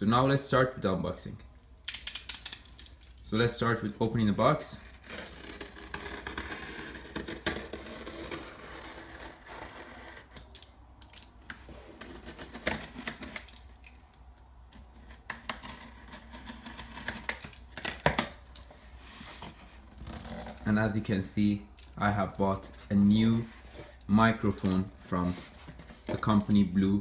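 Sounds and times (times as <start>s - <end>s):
cardboard and tape rustling: 4.0s - 26.9s.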